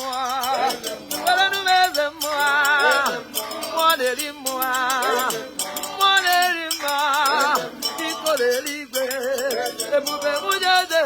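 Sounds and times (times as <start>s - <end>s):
person singing with vibrato: 0.0s - 11.0s
shaker rhythm: 0.0s - 11.0s.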